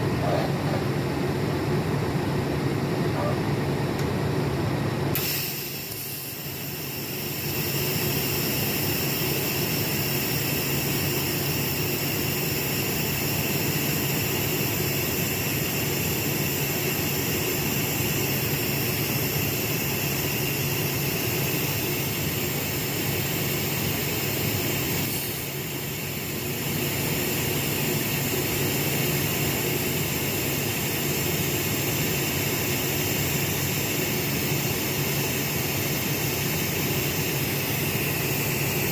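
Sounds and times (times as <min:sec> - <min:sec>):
welding arc hiss and buzz: 0:05.1 - 0:38.9.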